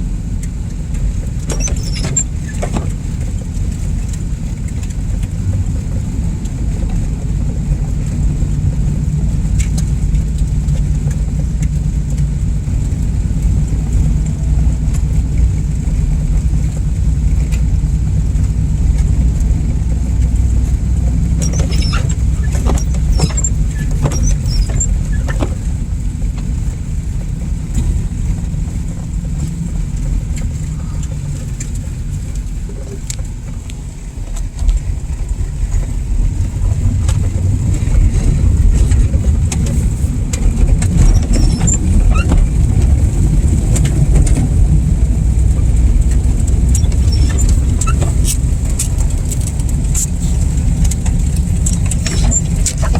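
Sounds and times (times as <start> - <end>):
tyres rumbling through slush: 0.0 - 52.9.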